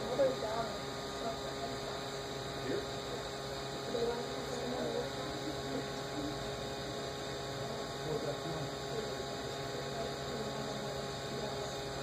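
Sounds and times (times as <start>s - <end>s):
three d printer humming: 0.0s - 12.0s.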